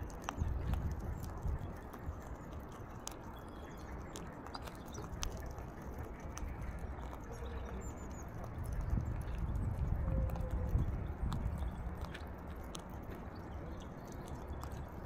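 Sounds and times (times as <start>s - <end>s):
low steady rumble: 0.0s - 15.0s
parrot beak cracking seeds: 0.0s - 15.0s.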